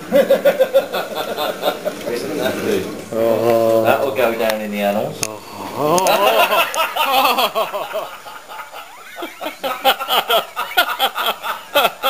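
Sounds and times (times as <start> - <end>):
people laughing: 0.0 - 4.4, 5.2 - 12.0.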